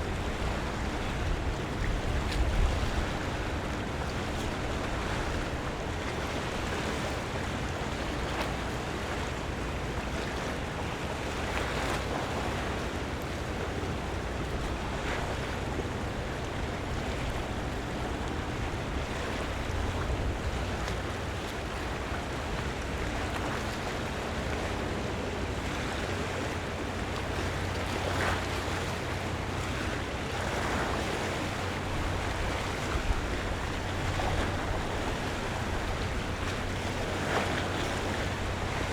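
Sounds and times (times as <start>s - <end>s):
seawater splashing against waterfront: 0.0s - 38.9s.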